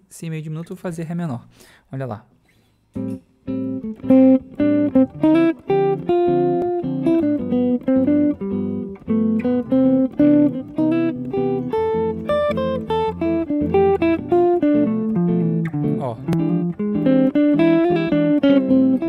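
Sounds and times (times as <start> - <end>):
electric guitar playing jazz: 3.0 - 19.0.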